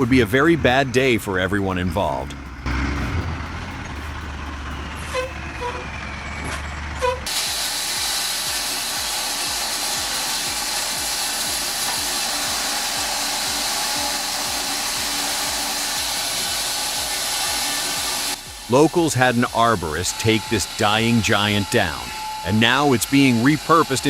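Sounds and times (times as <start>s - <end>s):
heavy engine running: 0.0s - 24.0s
loud steady machine noise: 0.0s - 24.0s.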